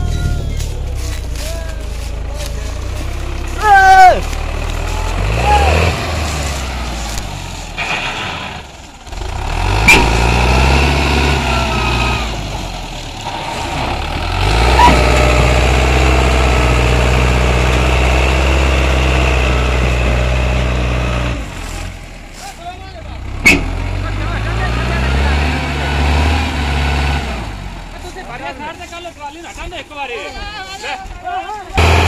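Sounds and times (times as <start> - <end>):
tractor diesel engine working hard: 0.0 - 29.0, 31.0 - 32.0.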